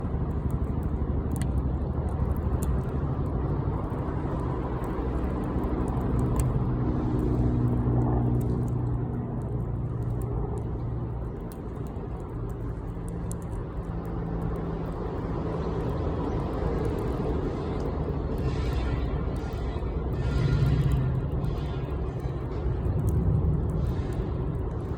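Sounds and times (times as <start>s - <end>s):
bonfire crackling and popping: 0.0s - 24.9s
low rumble with faint hum: 0.0s - 24.9s.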